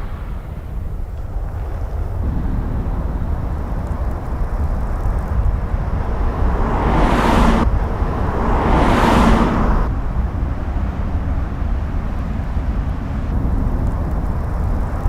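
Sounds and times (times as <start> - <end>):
rushing noise: 0.0 - 15.0
vehicle low rumble: 0.0 - 15.0.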